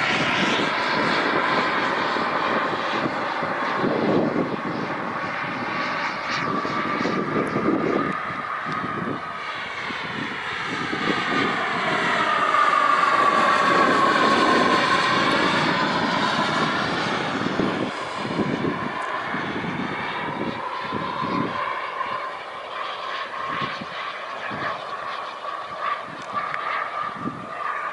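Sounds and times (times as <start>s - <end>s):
model jet engine whine: 0.0s - 27.9s.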